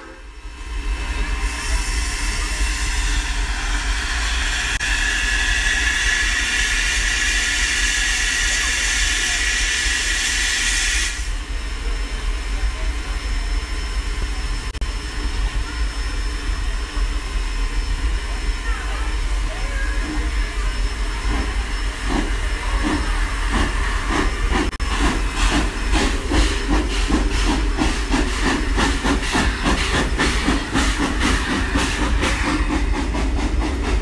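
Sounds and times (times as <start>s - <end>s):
steam locomotive venting steam: 0.0s - 34.0s.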